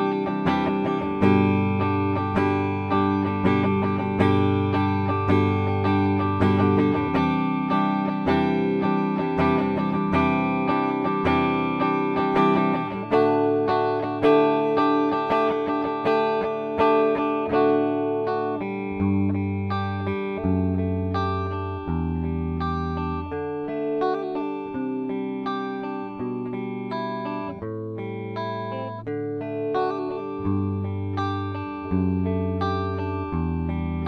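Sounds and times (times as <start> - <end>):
clean electric guitar chords: 0.0 - 34.0.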